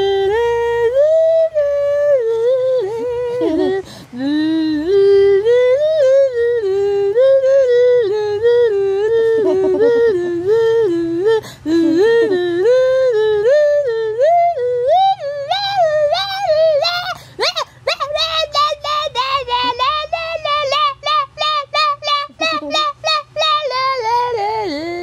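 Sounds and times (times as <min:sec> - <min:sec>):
faint low hum: 0:00.0 - 0:25.0
person humming a tune: 0:00.0 - 0:25.0.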